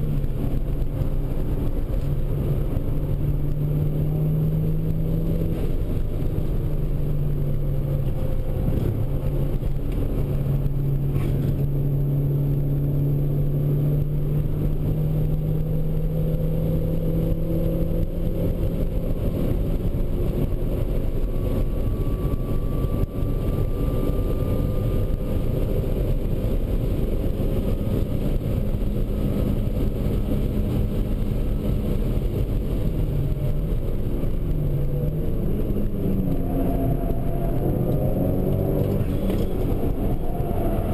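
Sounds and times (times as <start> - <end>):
car engine running hard: 0.0 - 40.9
road and wind noise: 0.0 - 40.9.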